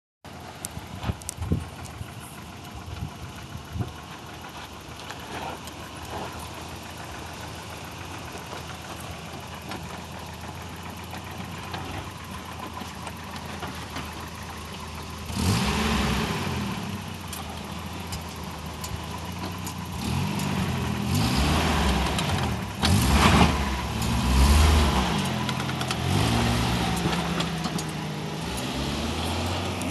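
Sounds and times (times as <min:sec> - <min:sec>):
engine running and revving: 0:00.3 - 0:29.9.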